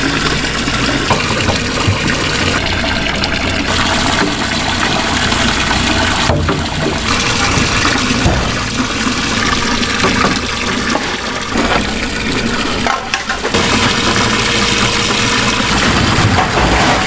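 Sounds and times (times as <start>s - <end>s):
water running and splashing: 0.0s - 17.0s.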